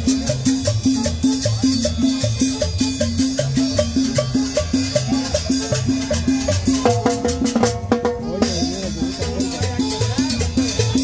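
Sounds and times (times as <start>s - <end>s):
latin dance music: 0.0s - 11.0s.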